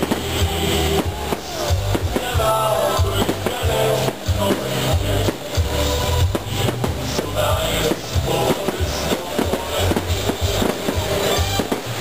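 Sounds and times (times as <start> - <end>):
music with pulsing bass beat: 0.0 - 12.0.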